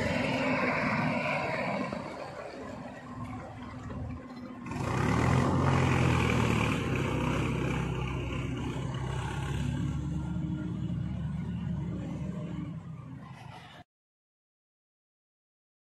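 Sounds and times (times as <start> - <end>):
diesel tractor engine under load: 0.0 - 13.8.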